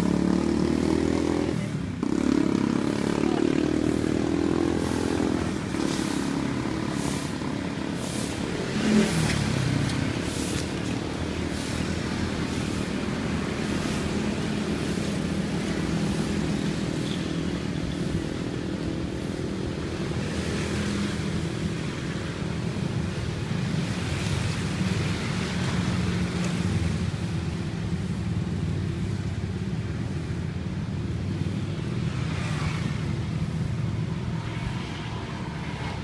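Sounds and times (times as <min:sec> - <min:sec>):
cars passing: 0:00.0 - 0:36.0
motorcycles and scooters passing: 0:00.0 - 0:36.0.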